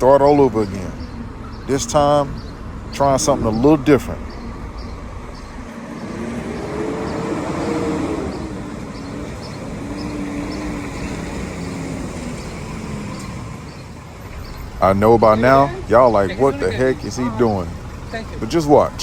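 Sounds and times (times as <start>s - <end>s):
diesel truck engine accelerating: 0.0s - 19.0s.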